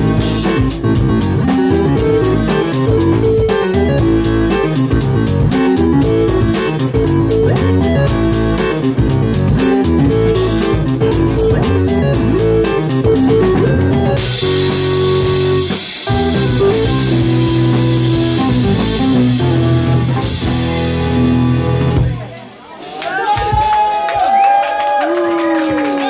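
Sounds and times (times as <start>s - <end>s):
live rock music: 0.0s - 23.7s.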